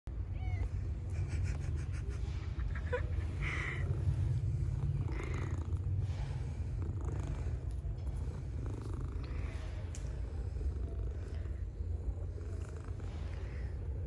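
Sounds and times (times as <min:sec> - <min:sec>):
cat purring: 0:01.1 - 0:13.8.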